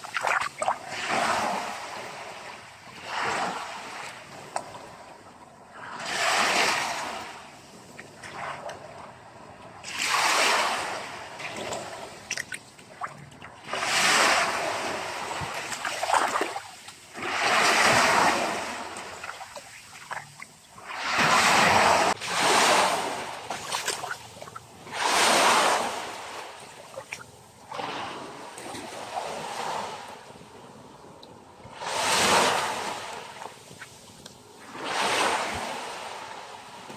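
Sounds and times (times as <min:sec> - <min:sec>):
ocean waves breaking on beach: 0:00.0 - 0:36.9.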